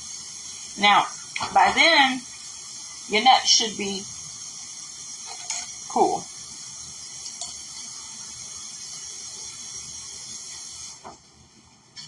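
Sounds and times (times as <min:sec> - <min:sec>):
kitchen tap running: 0:00.0 - 0:11.6.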